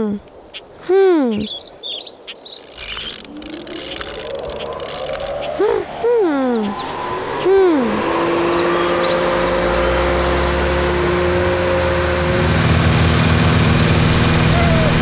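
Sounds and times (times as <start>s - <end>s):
low mechanical rumble: 2.8s - 15.0s
two-note machinery hum: 2.8s - 15.0s.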